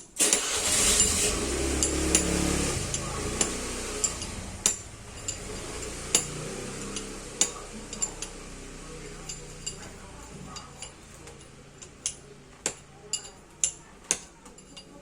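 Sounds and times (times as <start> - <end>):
metal tools clinking: 0.3 - 15.0.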